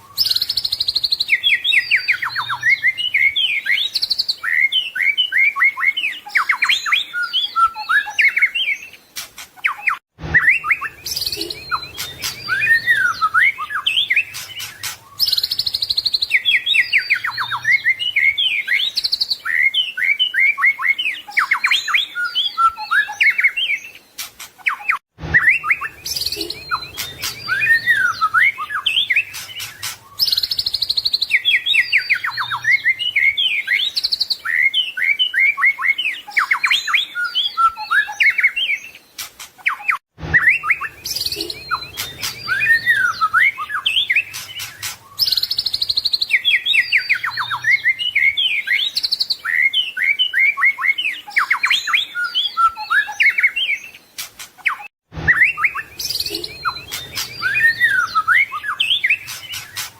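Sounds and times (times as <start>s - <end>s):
songbird singing varied song: 0.0s - 59.9s.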